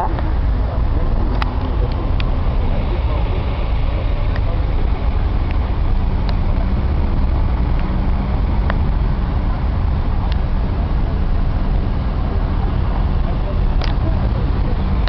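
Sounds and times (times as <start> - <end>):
street traffic rumble: 0.0 - 15.0
vehicle engines idling: 0.0 - 15.0.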